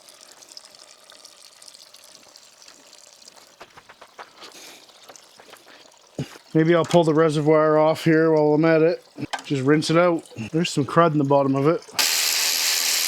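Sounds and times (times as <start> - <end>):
liquid trickling into a pan: 0.0 - 13.0.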